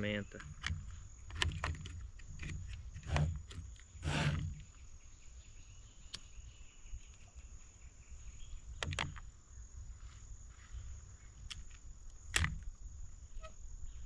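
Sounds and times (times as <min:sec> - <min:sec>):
high insect buzz: 0:00.0 - 0:14.0.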